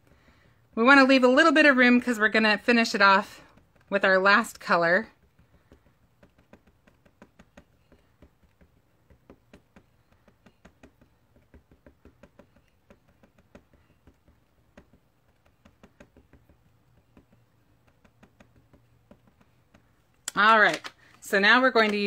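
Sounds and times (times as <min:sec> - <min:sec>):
ink pad tapping: 0:00.2 - 0:22.0.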